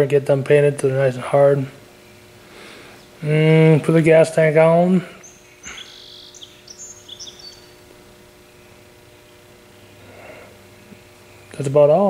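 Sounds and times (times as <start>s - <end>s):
steady low hum: 0.0s - 12.0s
small birds chirping: 2.0s - 12.0s.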